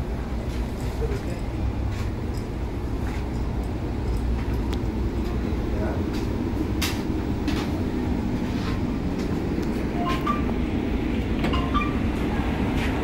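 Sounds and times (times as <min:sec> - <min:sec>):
train coach rumble: 0:00.0 - 0:13.0.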